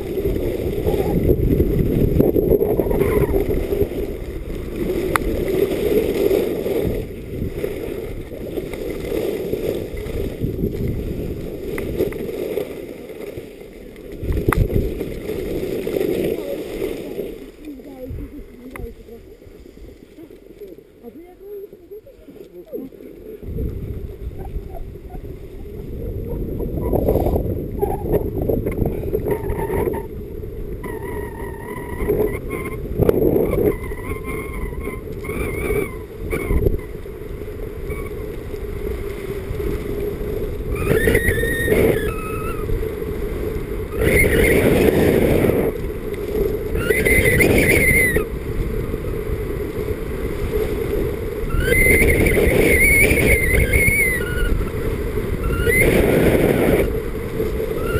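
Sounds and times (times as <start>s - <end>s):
wind rumbling on microphone: 0.0s - 57.9s.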